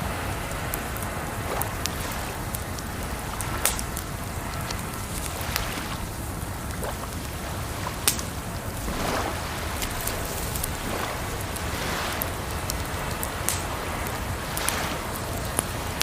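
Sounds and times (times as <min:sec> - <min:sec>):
campfire crackling and popping: 0:00.0 - 0:16.0
flowing water: 0:00.0 - 0:16.0.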